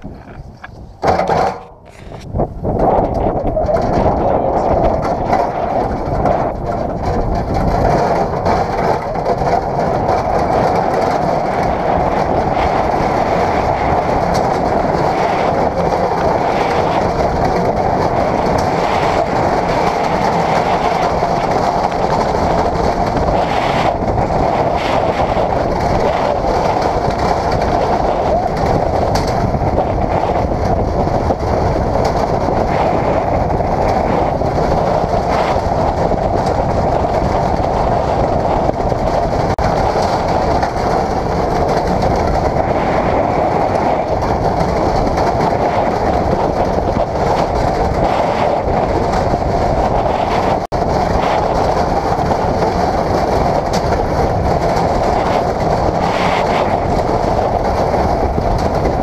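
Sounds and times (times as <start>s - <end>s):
wheels rattling on concrete: 0.0s - 59.0s.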